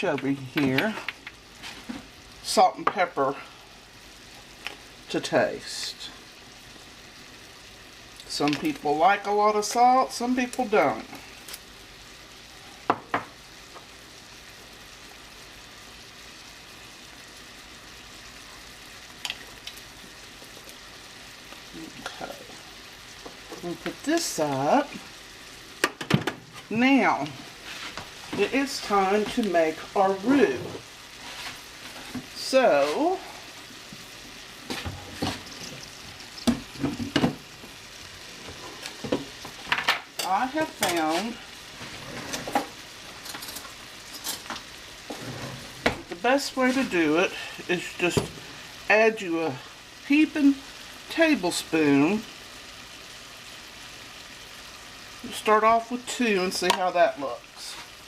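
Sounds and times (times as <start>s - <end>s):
vegetables sizzling in butter: 0.0s - 58.0s.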